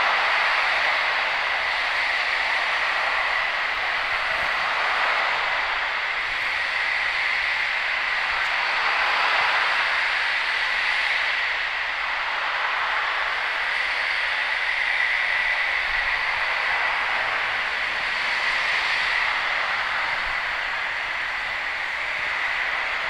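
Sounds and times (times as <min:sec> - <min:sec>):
white noise hiss from loudspeakers: 0:00.0 - 0:23.0.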